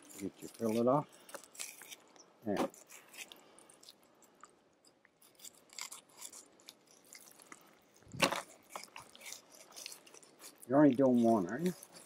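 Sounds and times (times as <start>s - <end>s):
knife scraping fish backbone: 0.0s - 4.0s, 5.2s - 12.0s.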